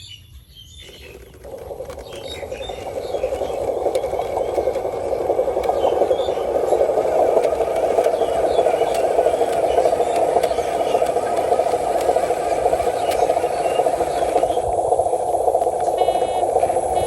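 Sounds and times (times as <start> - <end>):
model truck motor rattling buzz: 0.8 - 17.0.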